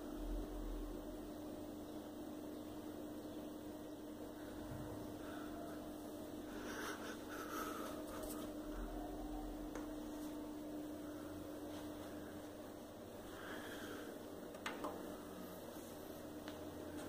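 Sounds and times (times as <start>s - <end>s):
faint room noise: 0.0s - 17.0s
low mains hum: 0.0s - 17.0s.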